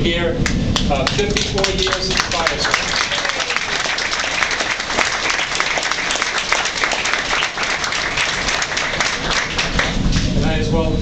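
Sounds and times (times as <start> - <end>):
audience applauding: 0.7 - 10.4.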